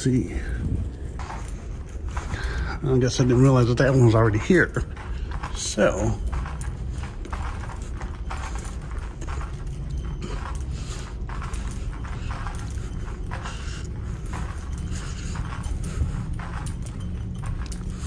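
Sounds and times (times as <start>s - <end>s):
steady low rumble: 0.0s - 18.0s
footsteps on hard floor: 0.7s - 18.0s.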